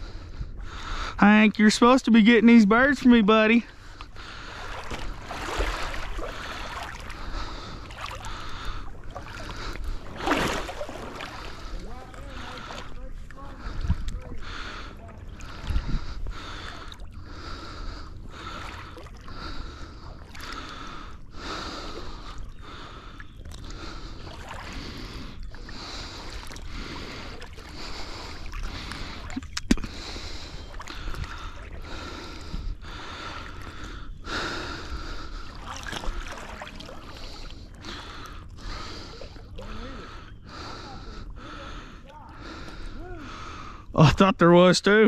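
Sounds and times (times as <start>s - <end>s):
heavy rhythmic breathing: 0.0s - 44.0s
water sloshing: 1.7s - 43.7s.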